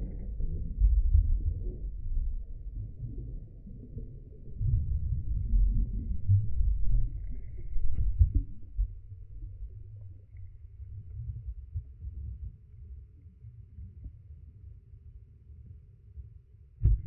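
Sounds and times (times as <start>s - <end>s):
underwater rumble and sloshing: 0.0s - 17.0s.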